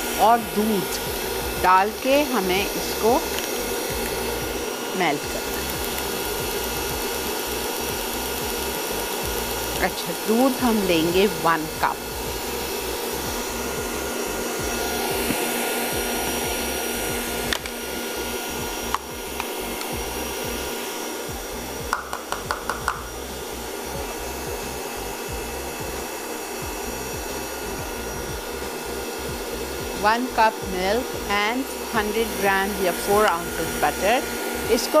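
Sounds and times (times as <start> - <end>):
stand mixer whipping: 0.0 - 35.0.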